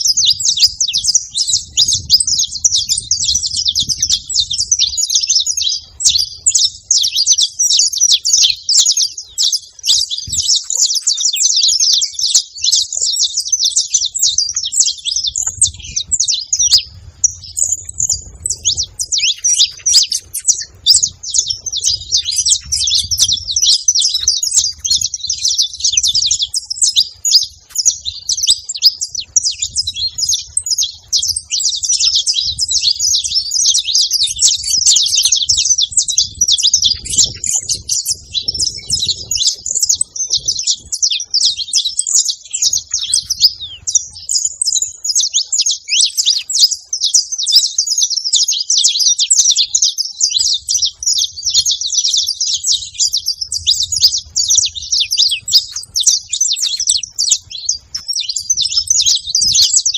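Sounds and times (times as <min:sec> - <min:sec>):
flock of finches chirping: 0:00.0 - 0:59.9.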